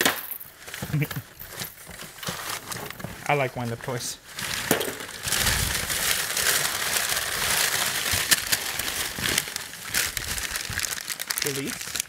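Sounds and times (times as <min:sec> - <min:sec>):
paper crinkling and rustling: 0:00.6 - 0:12.0.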